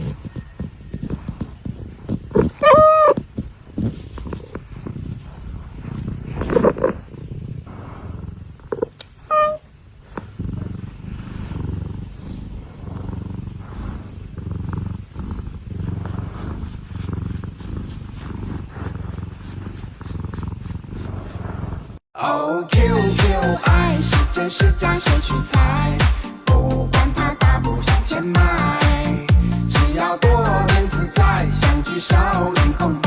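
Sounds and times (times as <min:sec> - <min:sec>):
cat purring: 0:00.0 - 0:22.0, 0:22.8 - 0:33.0.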